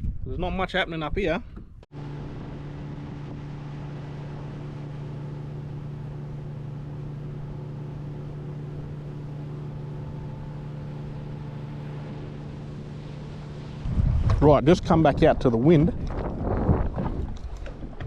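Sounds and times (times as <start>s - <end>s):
outboard motor running: 1.9s - 18.0s.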